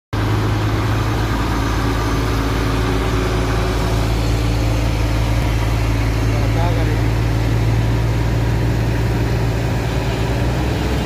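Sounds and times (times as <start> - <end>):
truck engine droning: 0.2 - 11.0.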